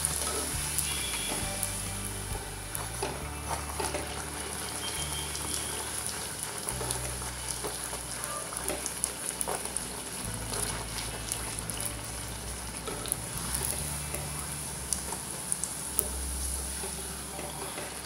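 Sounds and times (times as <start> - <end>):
deep-frying in hot oil: 0.0 - 18.0.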